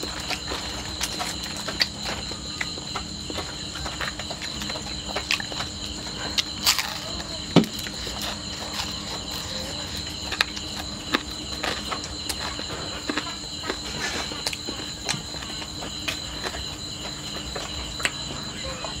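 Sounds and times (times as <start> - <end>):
crickets chirping: 0.0 - 19.0
person chewing with crunches: 0.0 - 19.0.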